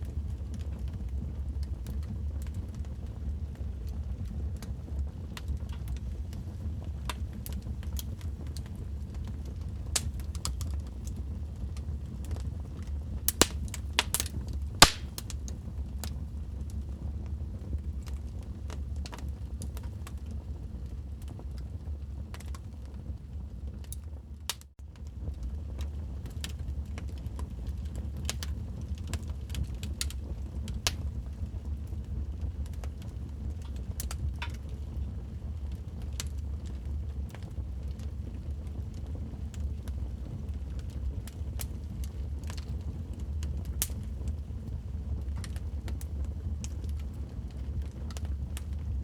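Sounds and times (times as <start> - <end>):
low rumble of flames: 0.0 - 49.0
wood fire crackling and popping: 0.0 - 49.0.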